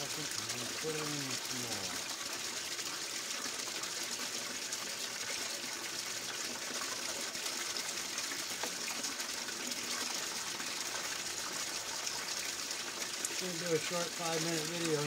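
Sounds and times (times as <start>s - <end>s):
water gushing through sluice: 0.0s - 15.0s
water pouring into tub: 0.0s - 15.0s.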